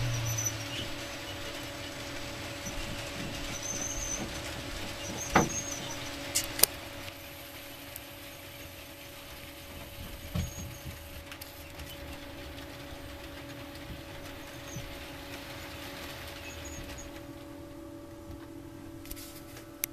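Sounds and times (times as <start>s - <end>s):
model train electric hum: 0.0s - 19.9s.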